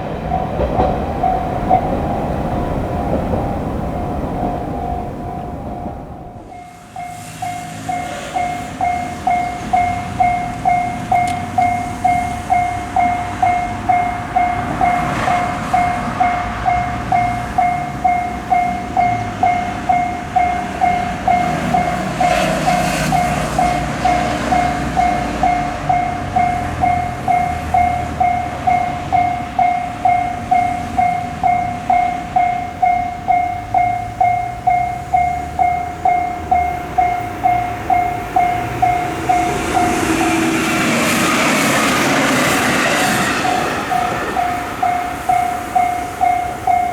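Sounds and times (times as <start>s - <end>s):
level crossing alarm ringing: 0.0s - 46.9s
passing train rumble: 0.0s - 46.9s.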